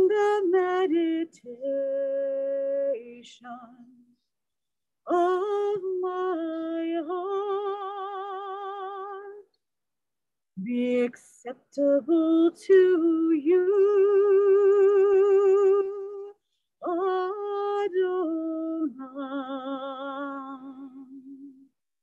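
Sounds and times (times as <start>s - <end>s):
woman singing unaccompanied: 0.0s - 4.1s, 5.1s - 9.5s, 10.6s - 21.7s.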